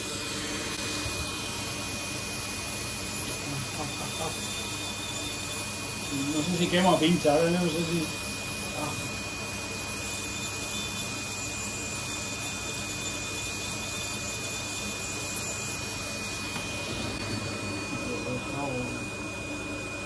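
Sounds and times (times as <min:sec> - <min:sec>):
nail drill high whine: 0:00.0 - 0:20.0.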